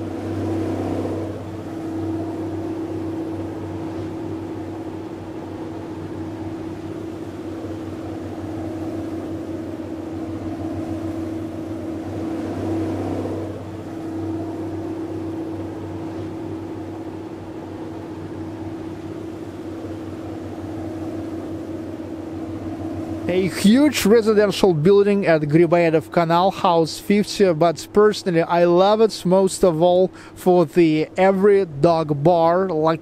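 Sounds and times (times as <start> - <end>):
boat engine humming: 0.0 - 33.0.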